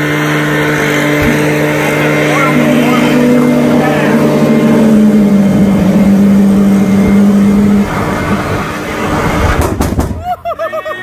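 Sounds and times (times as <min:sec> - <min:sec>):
jet turbine roar: 0:00.0 - 0:10.2.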